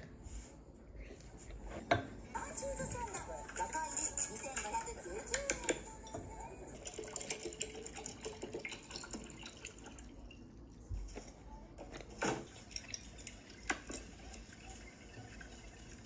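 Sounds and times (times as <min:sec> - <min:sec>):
soft eating sounds: 0:00.0 - 0:16.0.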